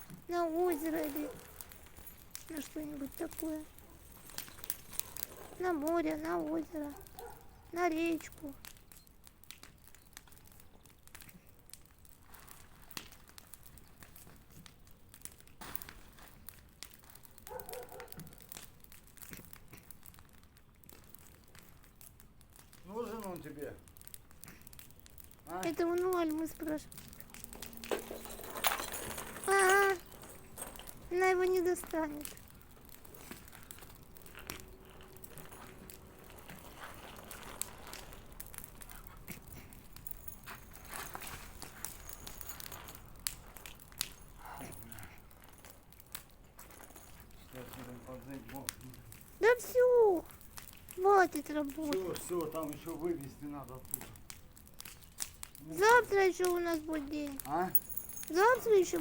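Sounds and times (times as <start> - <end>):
bonfire crackling and popping: 0.0 - 59.0.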